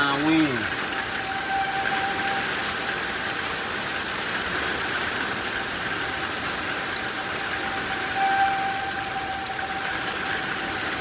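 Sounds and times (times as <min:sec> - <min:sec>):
distant warning siren: 0:00.0 - 0:11.0
heavy rain falling: 0:00.0 - 0:11.0.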